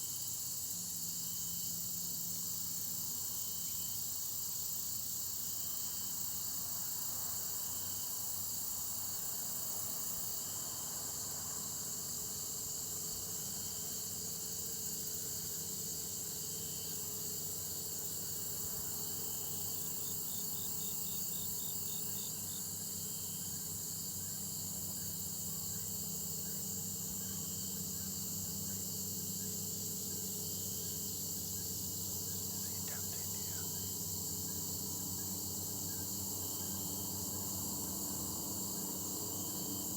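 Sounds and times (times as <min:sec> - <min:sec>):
crickets and insects chorus: 0:00.0 - 0:39.9
rapidly pulsing insect call: 0:00.0 - 0:39.9.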